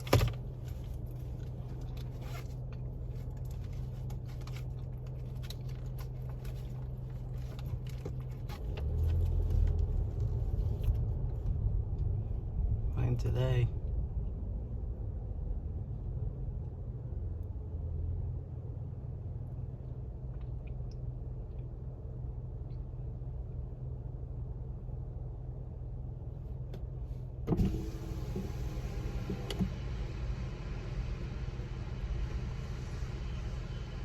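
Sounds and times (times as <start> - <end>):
car idling hum: 0.0 - 34.0.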